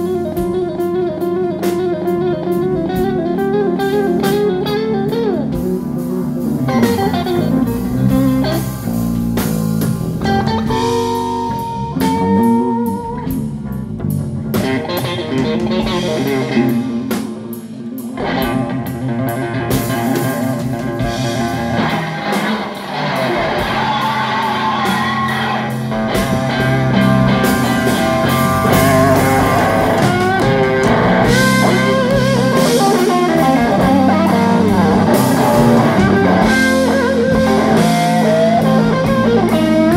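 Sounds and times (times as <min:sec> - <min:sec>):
bass guitar: 0:00.0 - 0:39.9
drum kit: 0:00.0 - 0:39.9
electric guitar with bent notes: 0:00.0 - 0:39.9.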